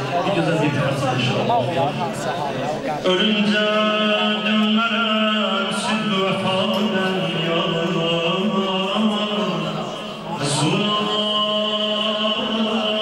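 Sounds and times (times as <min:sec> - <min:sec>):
man chanting elegy: 0:00.1 - 0:13.0.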